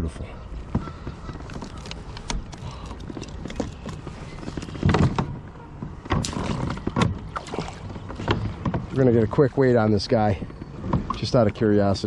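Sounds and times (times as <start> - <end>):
gear knocking and rustling: 0.6 - 12.0.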